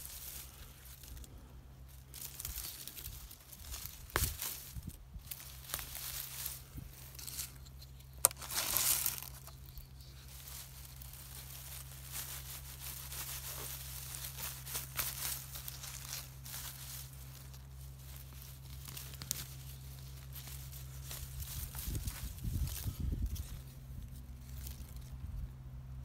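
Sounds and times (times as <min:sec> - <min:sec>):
dry plants rustling: 0:00.0 - 0:26.0.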